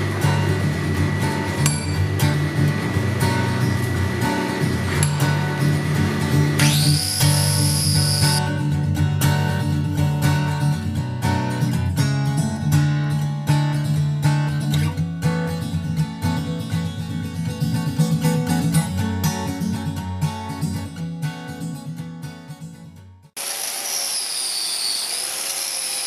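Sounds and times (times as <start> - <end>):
strummed acoustic guitar: 0.0 - 23.3.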